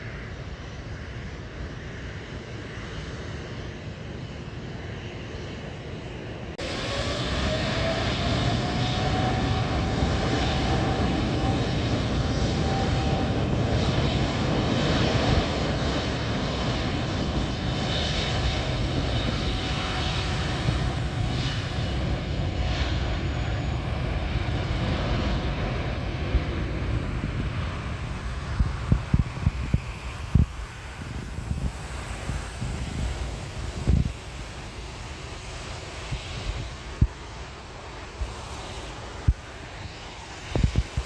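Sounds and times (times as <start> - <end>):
jet engine deep rumble: 0.0 - 41.0
jet engine whine: 0.0 - 41.0.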